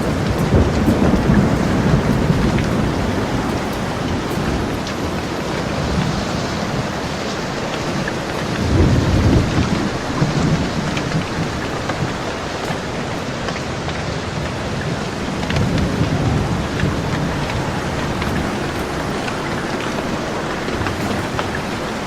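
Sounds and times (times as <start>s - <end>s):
rolling thunder: 0.0s - 22.0s
steady rain: 0.0s - 22.0s.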